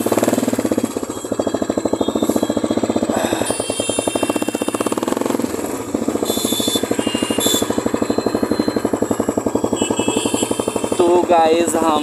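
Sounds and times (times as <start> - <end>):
single-cylinder engine running: 0.0 - 12.0.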